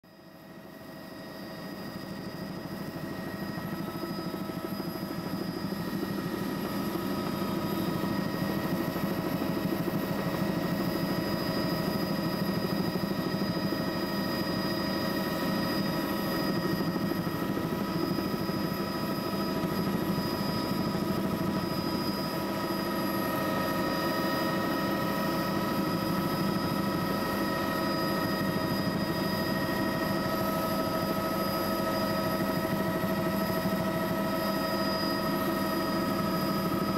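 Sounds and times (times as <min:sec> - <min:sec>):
helicopter running: 0:00.3 - 0:36.9.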